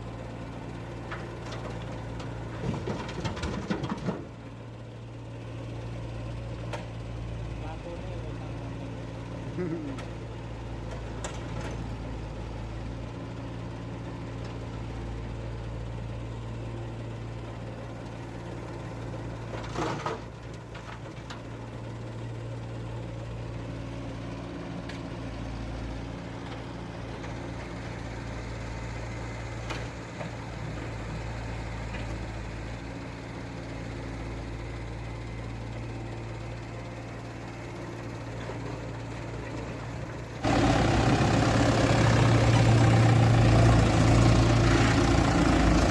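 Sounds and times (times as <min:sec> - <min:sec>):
engine idling: 0:04.2 - 0:45.9.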